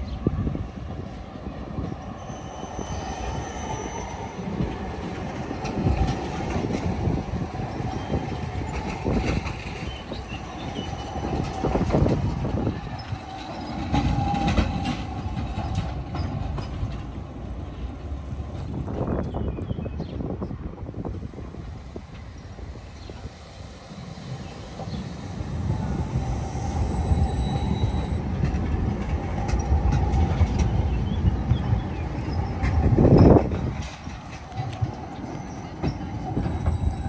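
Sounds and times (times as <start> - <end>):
low tram rumble: 0.0 - 37.0
tram wheels squealing on rails: 0.0 - 37.0.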